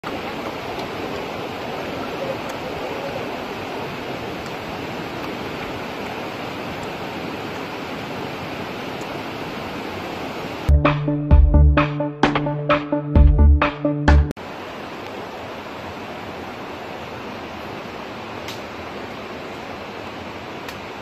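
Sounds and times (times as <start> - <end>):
running water rushing: 0.0 - 10.7, 14.4 - 21.0.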